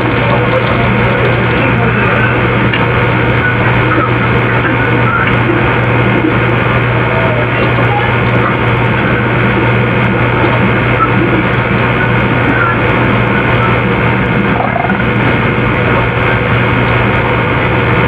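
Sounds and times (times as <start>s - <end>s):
recording hiss and hum: 0.0s - 18.0s.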